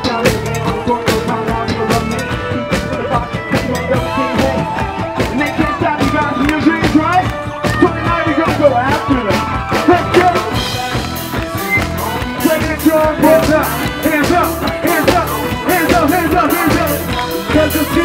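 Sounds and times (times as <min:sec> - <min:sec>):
person singing into a microphone: 0:00.0 - 0:08.9, 0:12.4 - 0:18.0
drumbeat: 0:00.0 - 0:18.0.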